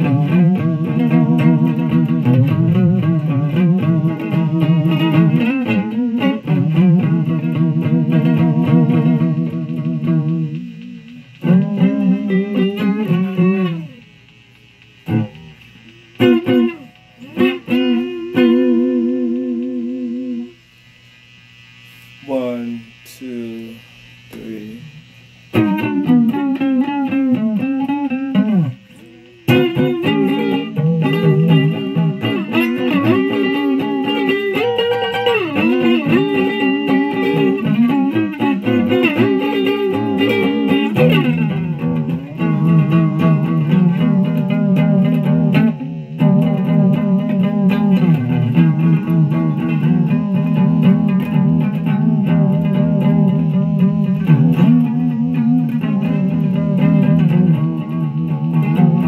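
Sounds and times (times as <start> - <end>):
electric guitar lead: 0.0 - 22.2, 23.7 - 59.0
fuller low part: 0.0 - 59.0.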